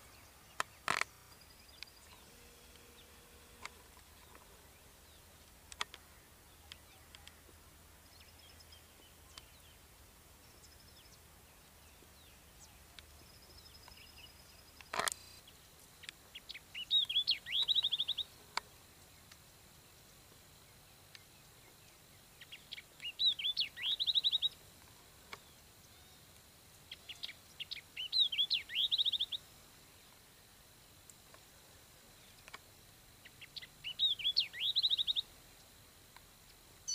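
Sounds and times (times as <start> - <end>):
songbird singing trills: 3.9 - 30.2, 32.1 - 35.8, 36.4 - 36.9.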